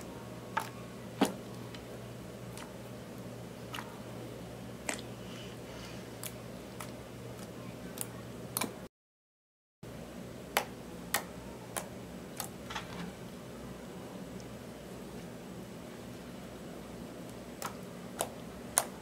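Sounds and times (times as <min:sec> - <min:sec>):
low steady hum: 0:00.0 - 0:08.9, 0:09.8 - 0:19.0.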